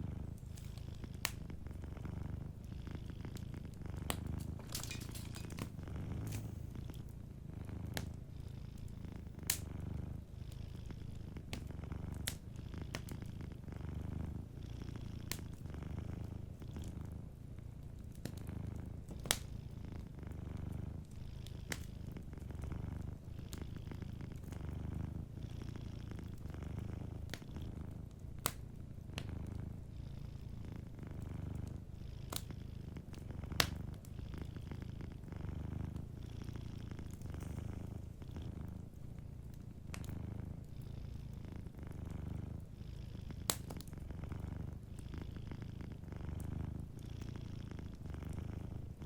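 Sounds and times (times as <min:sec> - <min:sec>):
wood fire crackling: 0:00.0 - 0:10.5, 0:11.3 - 0:14.4, 0:15.2 - 0:25.2, 0:25.8 - 0:29.9, 0:31.1 - 0:40.8, 0:43.4 - 0:47.0
cat purring: 0:00.0 - 0:49.0.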